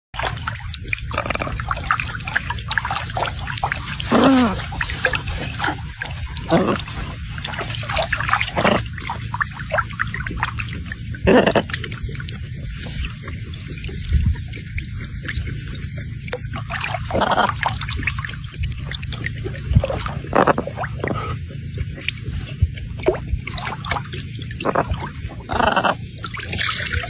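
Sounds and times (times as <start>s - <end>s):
water rushing: 0.2s - 27.0s.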